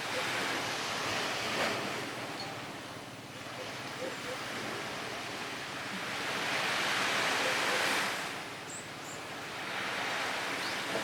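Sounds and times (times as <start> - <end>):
wave rushing onto beach: 0.0 - 2.9, 3.6 - 11.0
steady hiss of the sea: 0.0 - 11.0.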